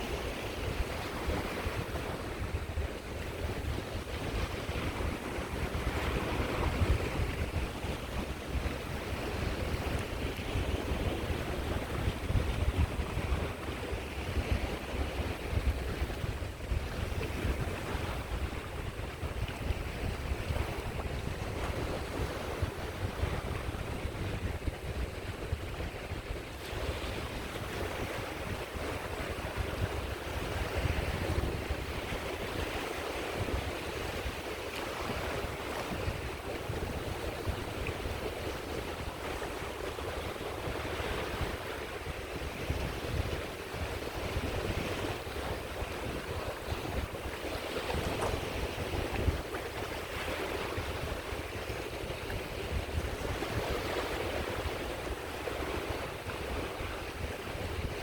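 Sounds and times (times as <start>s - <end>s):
sea waves on shore: 0.0s - 58.0s
wind buffeting microphone: 0.0s - 58.0s.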